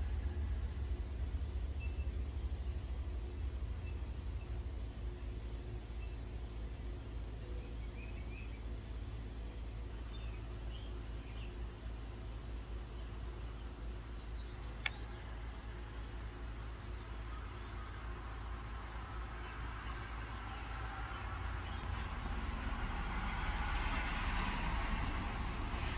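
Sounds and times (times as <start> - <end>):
cricket chirping: 0.0 - 25.9
low outdoor rumble: 0.0 - 25.9.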